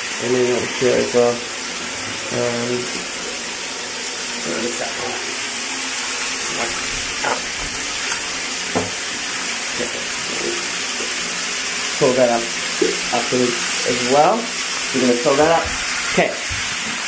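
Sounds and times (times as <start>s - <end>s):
tap water running into bathtub: 0.0s - 17.0s.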